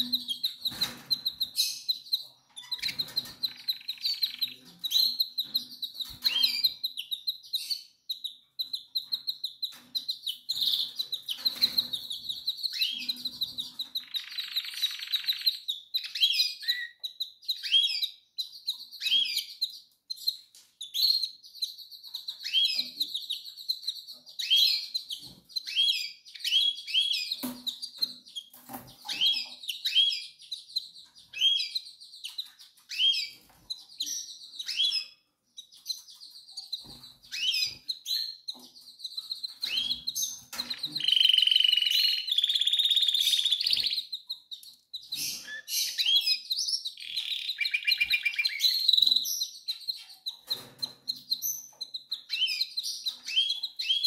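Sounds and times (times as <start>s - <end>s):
canary chirps: 0.0s - 54.0s.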